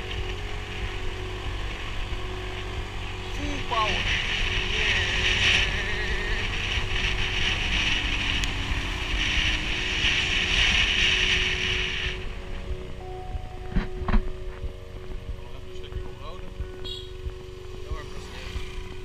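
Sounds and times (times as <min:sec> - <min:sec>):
wind rushing over microphone: 0:00.0 - 0:15.6
steady high hiss: 0:00.0 - 0:16.3
motor scooter engine running: 0:00.0 - 0:19.0.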